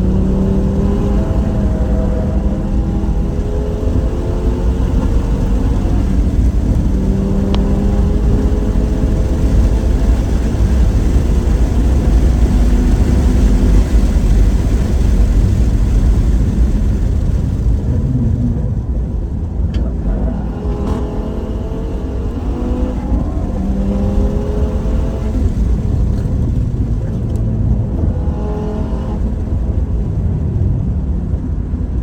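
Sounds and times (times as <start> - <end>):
car engine at speed: 0.0 - 32.0
wind and road rumble: 0.0 - 32.0.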